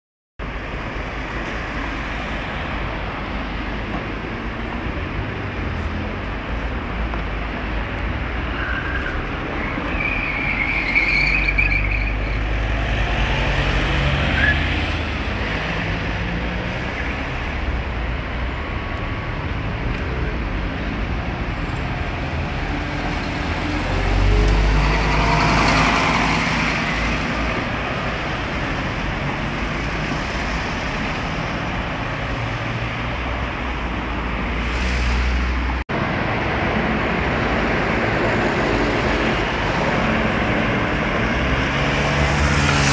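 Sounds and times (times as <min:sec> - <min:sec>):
city traffic: 0:00.4 - 0:42.9.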